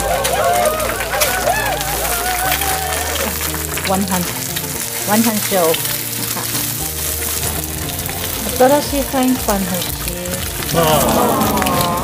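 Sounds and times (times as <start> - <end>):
background music: 0.0 - 12.0
chopsticks stirring in pan: 0.0 - 12.0
egg and onions sizzling in oil: 0.0 - 12.0.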